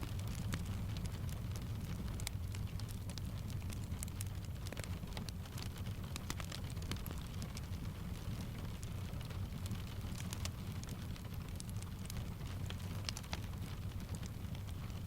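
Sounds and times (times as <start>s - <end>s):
fireplace crackling: 0.0s - 15.0s.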